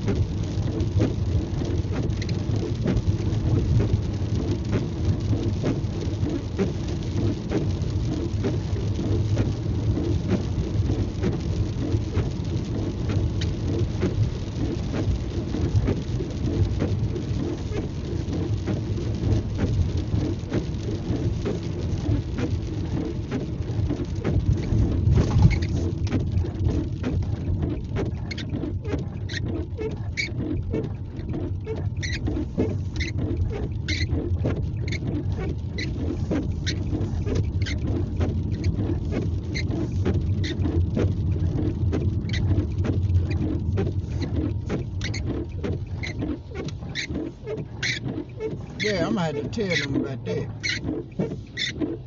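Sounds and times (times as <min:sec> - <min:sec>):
road and tyre noise: 0:00.0 - 0:52.0.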